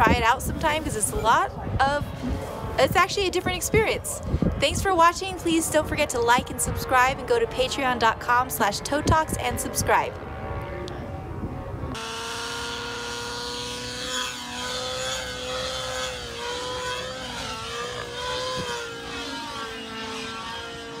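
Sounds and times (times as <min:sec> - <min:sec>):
model airplane motor drone: 0:00.0 - 0:21.0.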